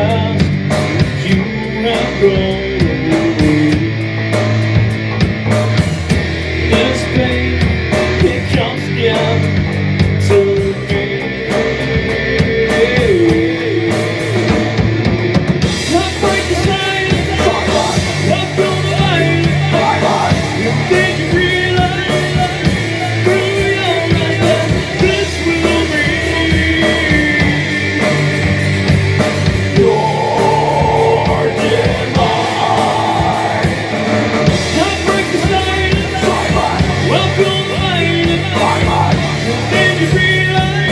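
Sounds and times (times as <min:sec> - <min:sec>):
person singing: 0:00.0 - 0:04.1, 0:06.7 - 0:09.6, 0:10.2 - 0:14.7, 0:15.7 - 0:28.7, 0:29.7 - 0:40.9
drum kit: 0:00.0 - 0:40.9
electric bass: 0:00.0 - 0:40.9
electric guitar: 0:00.0 - 0:40.9.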